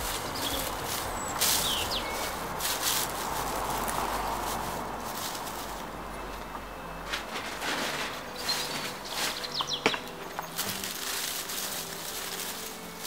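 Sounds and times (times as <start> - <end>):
hands scraping soil: 0.0 - 6.0, 7.2 - 13.0
birds chirping: 0.0 - 7.1, 8.0 - 13.0
dry leaves rustling: 0.0 - 13.0.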